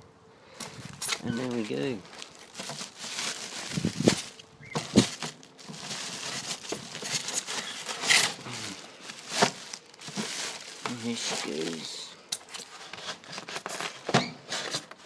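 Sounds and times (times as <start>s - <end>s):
plastic and cardboard rustling: 0.6s - 15.0s.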